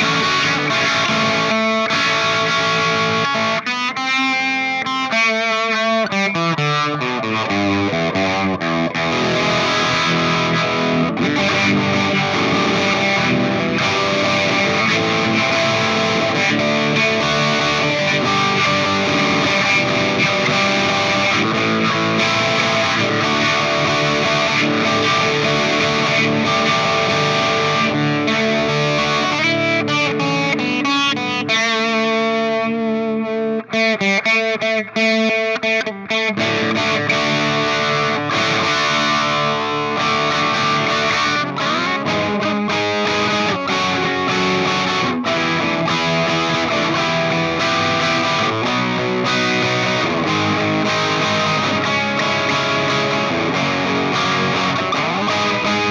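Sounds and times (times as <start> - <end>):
distorted electric guitar: 0.0 - 55.9.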